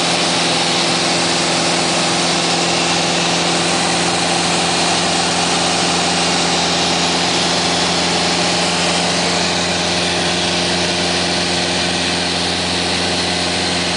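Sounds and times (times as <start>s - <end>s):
aircraft engine and propeller: 0.0s - 13.9s.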